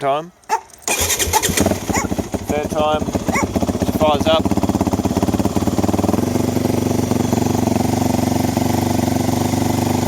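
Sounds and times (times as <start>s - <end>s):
motorcycle engine fast idle: 0.9s - 10.0s.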